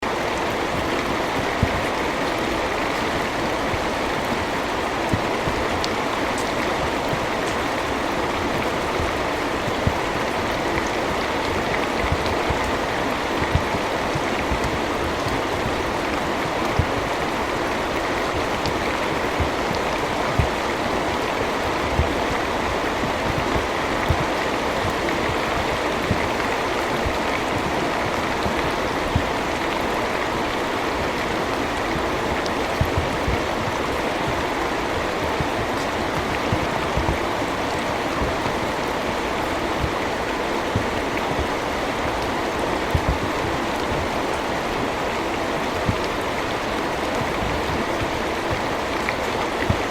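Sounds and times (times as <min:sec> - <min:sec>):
raindrops ticking and thumping: 0:00.0 - 0:49.9
steady rain hiss: 0:00.0 - 0:49.9.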